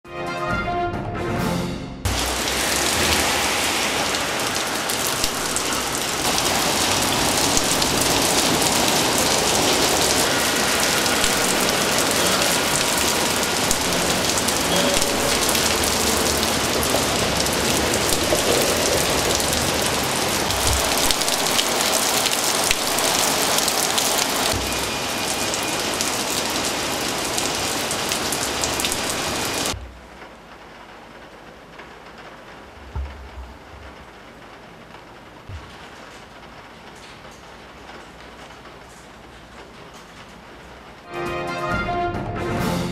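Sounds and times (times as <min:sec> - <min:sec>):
heavy rain on pavement and roofs: 0:02.1 - 0:42.1.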